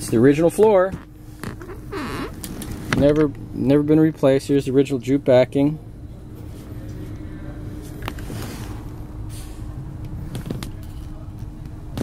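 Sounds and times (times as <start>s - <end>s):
faint constant hum: 0.0s - 12.0s
low background rumble: 0.0s - 12.0s.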